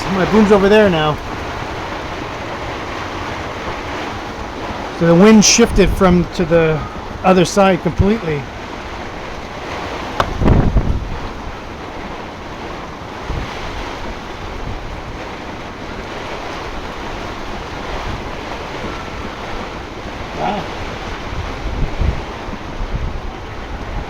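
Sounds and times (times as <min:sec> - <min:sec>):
storm wind and heavy rain: 0:00.0 - 0:24.0
wind buffeting microphone thumps: 0:00.0 - 0:24.0.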